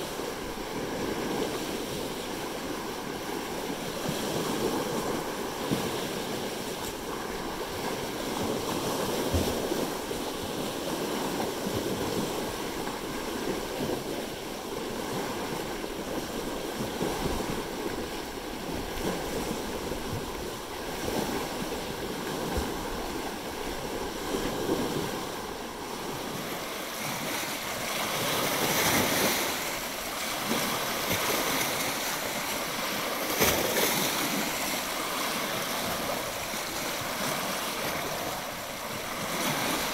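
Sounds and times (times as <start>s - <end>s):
lake waves lapping on rocks: 0.0s - 39.9s.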